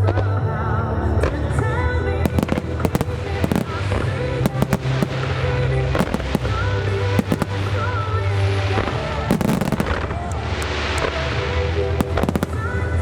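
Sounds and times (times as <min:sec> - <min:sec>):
fireworks bursting: 0:01.2 - 0:13.0.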